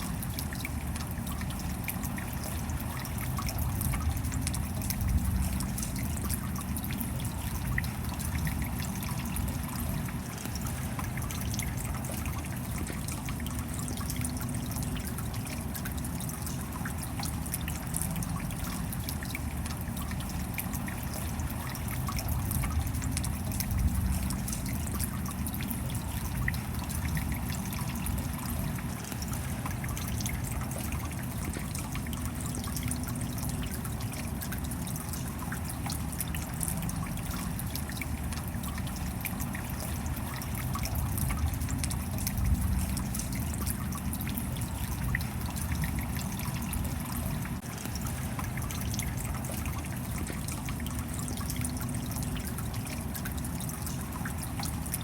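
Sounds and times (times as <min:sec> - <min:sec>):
raindrops ticking: 0:00.0 - 0:55.0.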